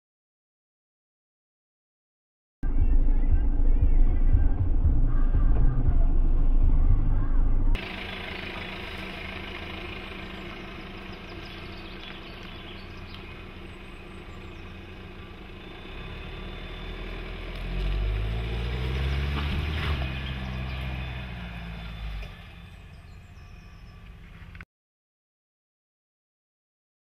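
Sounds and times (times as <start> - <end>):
diesel engine running: 2.6 - 24.6.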